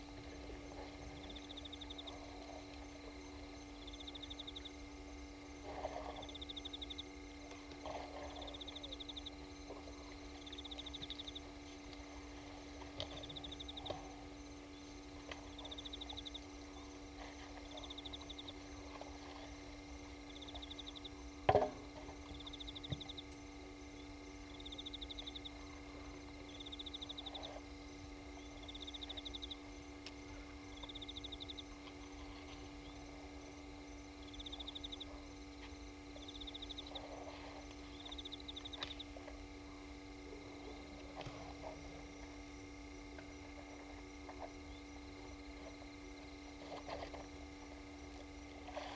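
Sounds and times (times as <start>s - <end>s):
animal pulsed trill: 0.0s - 21.4s, 22.0s - 48.9s
steady low hum: 0.0s - 48.9s.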